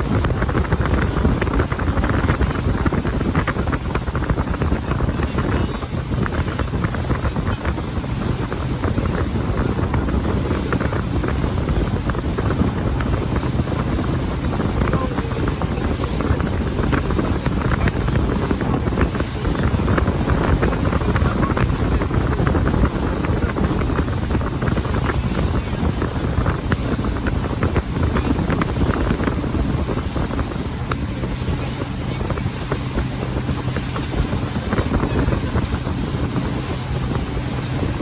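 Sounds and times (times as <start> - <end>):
boat and water noise: 0.0 - 38.0
wind buffeting microphone: 0.0 - 38.0.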